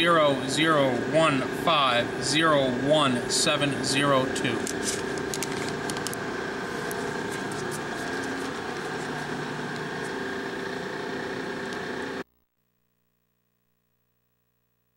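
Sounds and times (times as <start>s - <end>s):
mechanical hum with faint whine: 0.0s - 12.3s.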